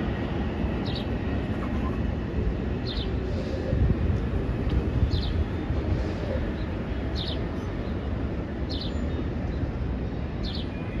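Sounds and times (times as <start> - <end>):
electric train rumbling away: 0.0 - 11.0.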